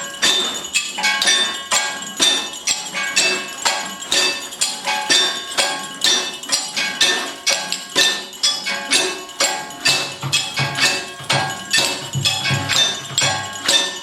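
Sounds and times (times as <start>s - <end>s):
struck metal percussion ringing: 0.0s - 14.0s.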